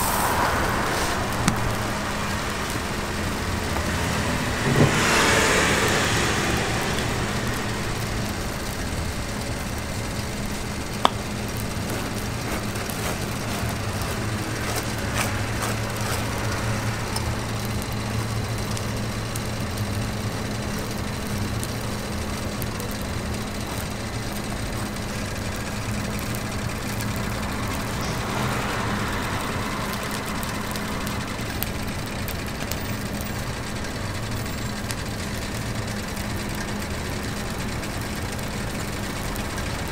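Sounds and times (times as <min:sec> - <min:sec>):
low machine hum with hiss: 0:00.0 - 0:39.9.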